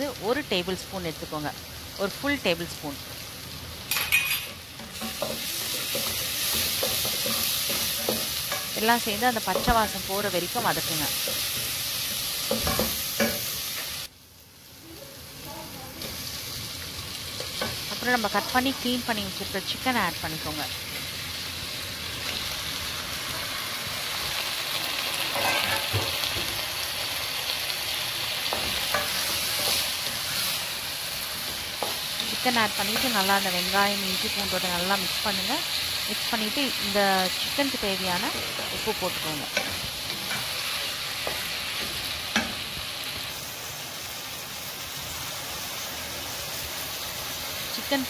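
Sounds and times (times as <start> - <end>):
chicken sizzling in hot oil: 0.0 - 48.0.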